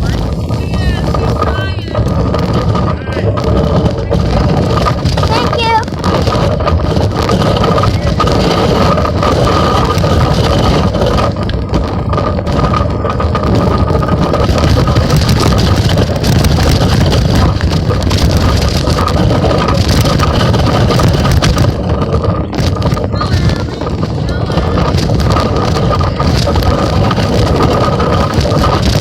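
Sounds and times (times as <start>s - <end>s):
bicycle rolling rumble: 0.0s - 29.0s
wind on microphone: 0.0s - 29.0s.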